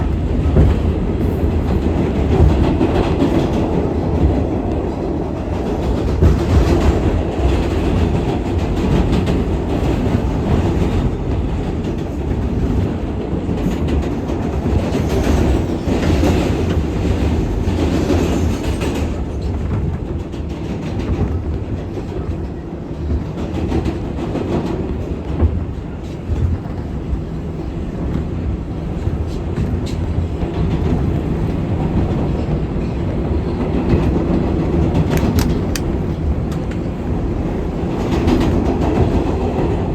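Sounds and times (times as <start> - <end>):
subway train rumble: 0.0 - 39.9.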